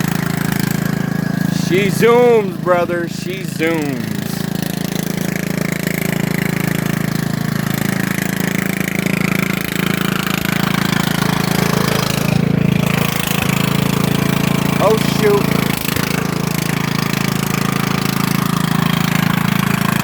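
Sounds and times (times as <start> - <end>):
lawnmower engine droning: 0.0 - 20.0.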